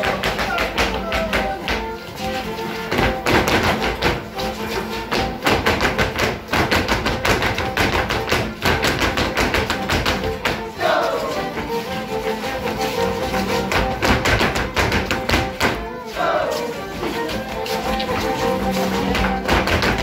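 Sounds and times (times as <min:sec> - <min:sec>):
folk dance music: 0:00.0 - 0:20.0
shoes stamping on concrete: 0:00.0 - 0:20.0.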